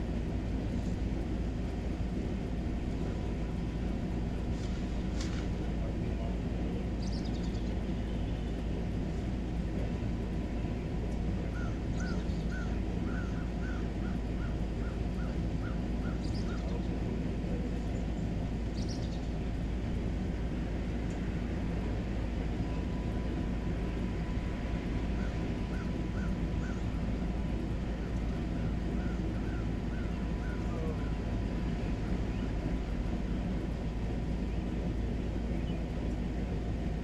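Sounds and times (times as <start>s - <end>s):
steady low noise: 0.0s - 37.0s.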